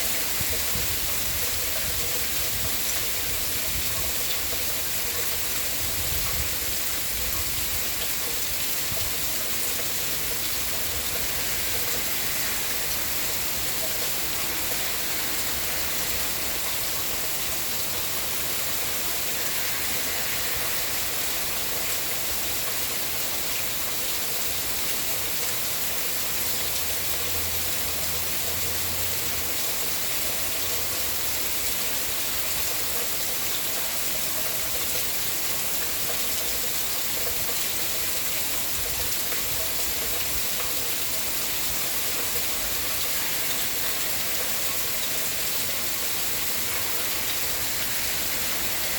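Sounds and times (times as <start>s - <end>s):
steady rainfall: 0.0s - 48.9s.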